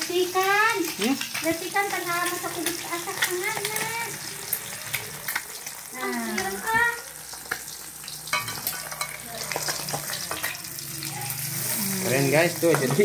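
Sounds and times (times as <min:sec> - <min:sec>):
egg sizzling in hot oil: 0:00.0 - 0:13.0.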